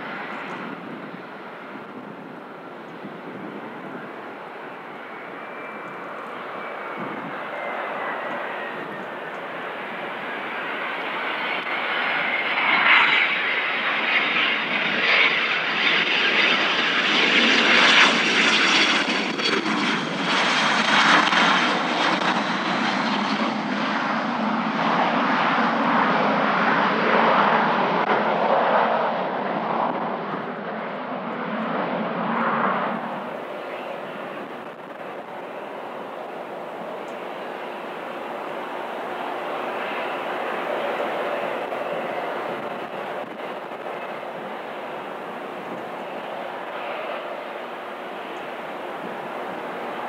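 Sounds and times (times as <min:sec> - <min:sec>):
high jet engine whine: 0:00.0 - 0:50.0
jet passing close by: 0:00.0 - 0:50.0.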